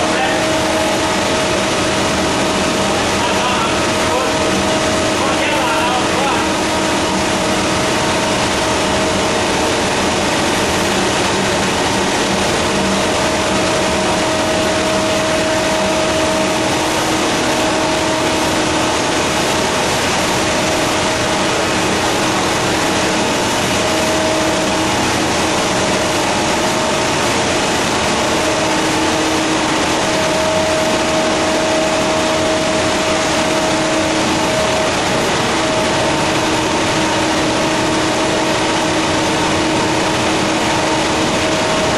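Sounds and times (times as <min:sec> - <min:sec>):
machine whine: 0:00.0 - 0:41.9
paper machine humming: 0:00.0 - 0:41.9.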